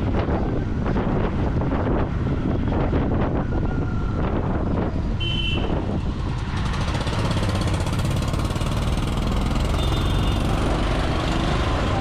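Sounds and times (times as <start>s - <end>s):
motorcycle engine and exhaust: 0.0s - 12.0s.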